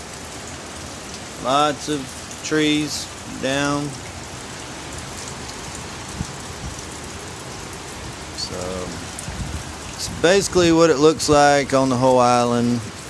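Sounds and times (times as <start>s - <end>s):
light rain: 0.0s - 13.0s
wind: 0.0s - 13.0s.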